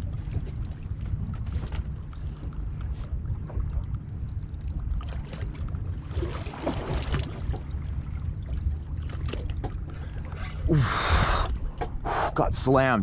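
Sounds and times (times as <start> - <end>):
water and wind rumble around boat: 0.0 - 13.0.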